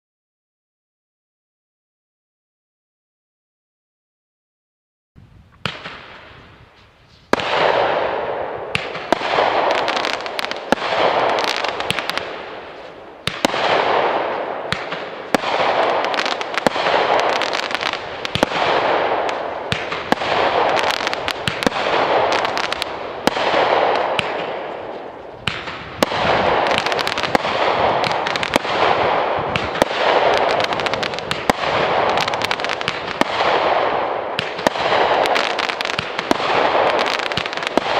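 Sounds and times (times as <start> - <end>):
fireworks launching and bursting: 5.2 - 37.9
fireworks crackling: 5.5 - 37.9.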